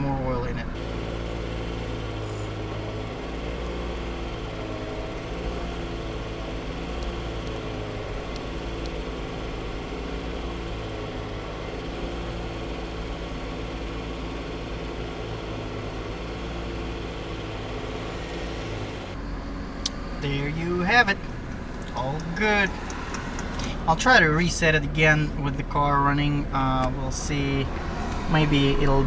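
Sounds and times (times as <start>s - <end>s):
car engine idling: 0.7s - 29.0s.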